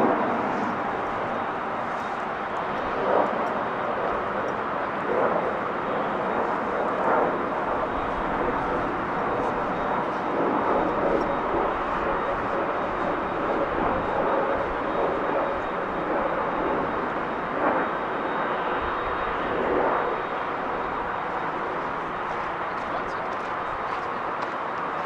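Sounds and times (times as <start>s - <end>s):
high engine whine: 0.0s - 25.0s
jet engines rushing: 0.0s - 25.0s.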